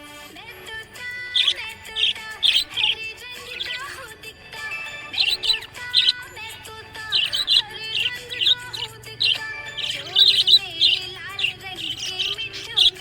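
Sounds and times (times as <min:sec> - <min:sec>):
background music: 0:00.0 - 0:13.0
budgerigars chirping: 0:01.0 - 0:13.0.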